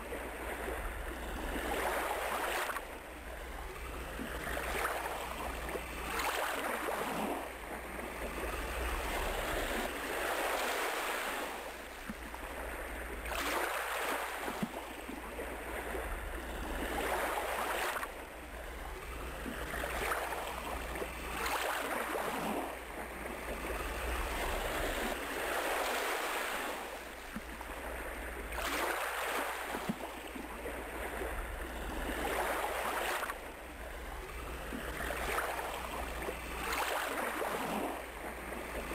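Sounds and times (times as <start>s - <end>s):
waves breaking and washing in: 0.0s - 38.9s.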